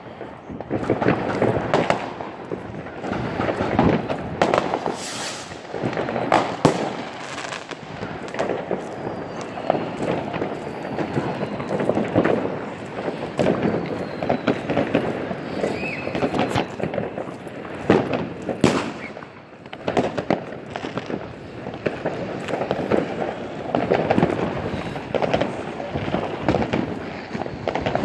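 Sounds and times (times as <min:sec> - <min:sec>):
fireworks and firecrackers crackling: 0:00.0 - 0:28.0
loud firework bangs: 0:00.2 - 0:28.0.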